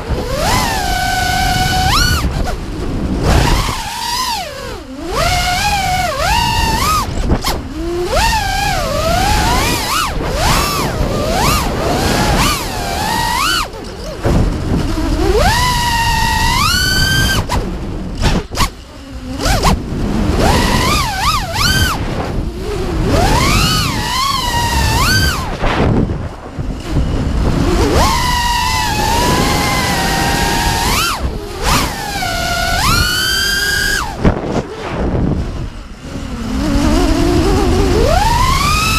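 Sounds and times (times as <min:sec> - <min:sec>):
quadcopter motors whining: 0:00.0 - 0:38.9
rushing air noise: 0:00.0 - 0:38.9.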